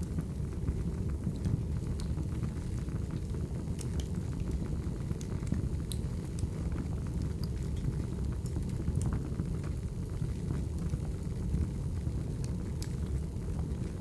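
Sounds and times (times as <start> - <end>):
crackles and pops of burning logs: 0.0 - 14.0
fire rumbling: 0.0 - 14.0.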